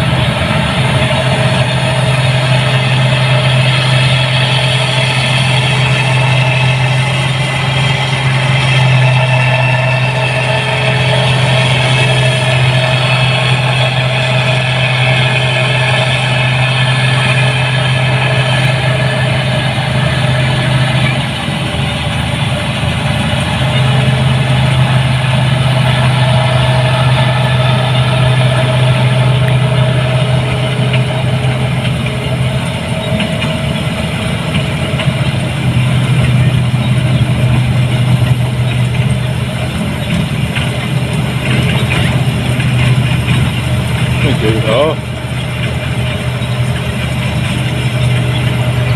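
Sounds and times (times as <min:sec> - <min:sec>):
combine harvester engine hum: 0:00.0 - 0:48.9.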